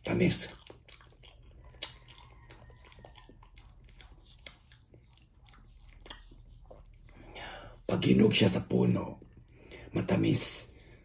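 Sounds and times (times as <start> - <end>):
chewing soft food: 0.0 - 9.9.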